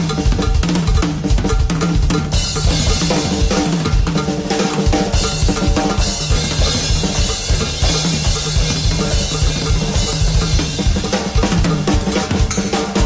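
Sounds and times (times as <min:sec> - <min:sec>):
cymbals: 0:00.0 - 0:13.0
drum kit playing fast groove: 0:00.0 - 0:13.0.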